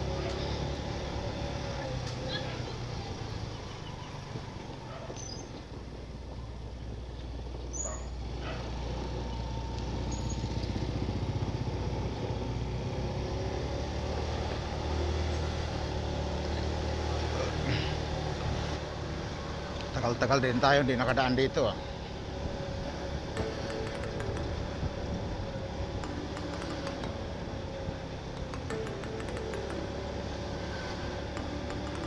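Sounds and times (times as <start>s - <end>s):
road noise: 0.0s - 32.0s
vehicle engine running: 0.0s - 32.0s.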